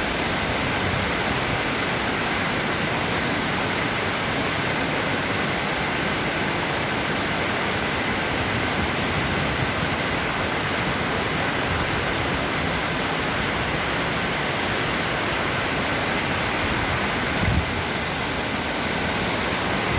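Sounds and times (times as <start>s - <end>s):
waterfall roaring: 0.0s - 19.9s.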